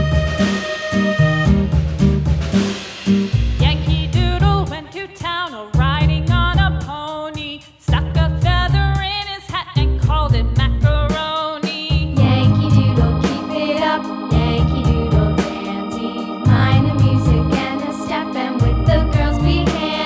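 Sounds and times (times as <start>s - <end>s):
upbeat song with sung melody: 3.6s - 20.0s.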